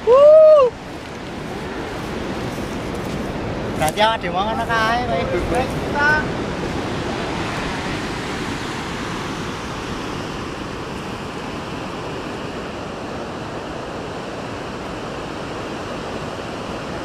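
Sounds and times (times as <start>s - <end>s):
ocean surf: 0.0s - 17.0s
wind gusts: 0.0s - 17.0s.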